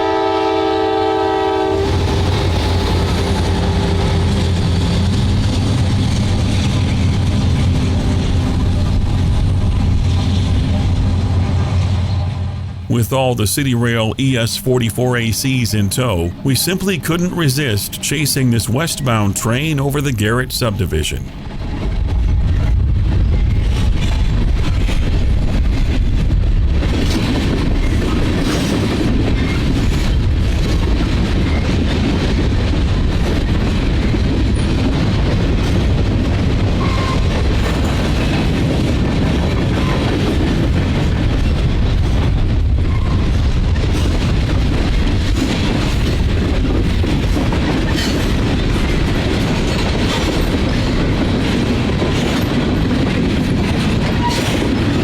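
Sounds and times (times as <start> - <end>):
train wheels rumbling on rails: 1.6 - 12.8, 21.3 - 55.0.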